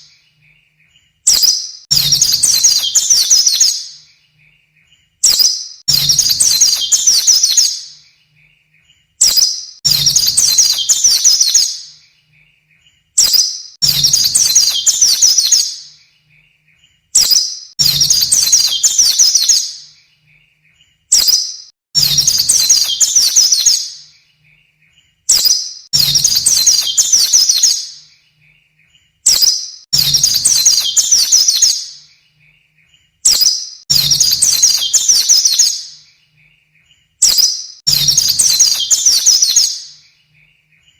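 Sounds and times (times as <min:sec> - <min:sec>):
bird high twittering song: 0:00.0 - 0:40.9.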